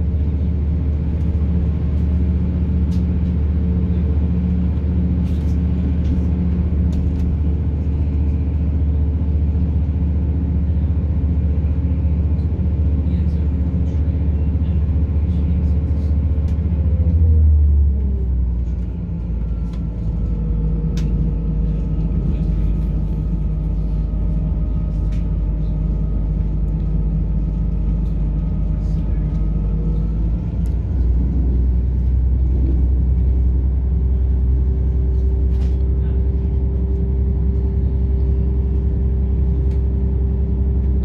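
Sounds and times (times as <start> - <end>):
train diesel engine drone: 0.0 - 41.0.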